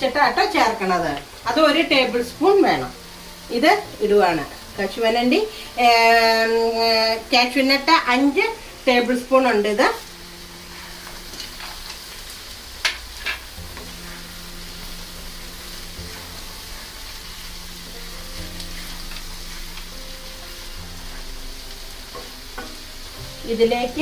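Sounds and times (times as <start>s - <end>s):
masala sizzling in a pan: 0.0s - 24.0s.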